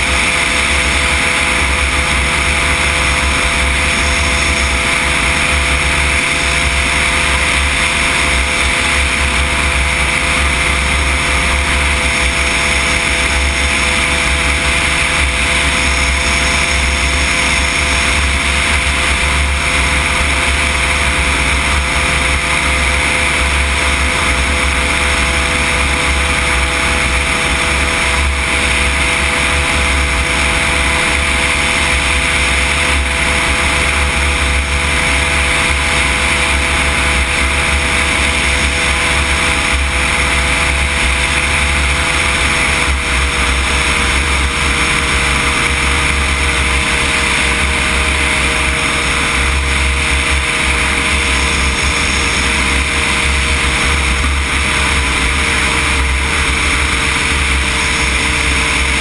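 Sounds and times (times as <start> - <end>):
engine and propeller running: 0.0 - 59.0
rush of air: 0.0 - 59.0.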